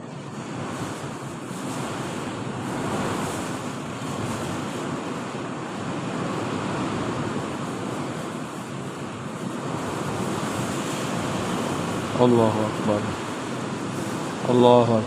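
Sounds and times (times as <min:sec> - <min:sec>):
storm wind blowing hard: 0:00.0 - 0:15.0.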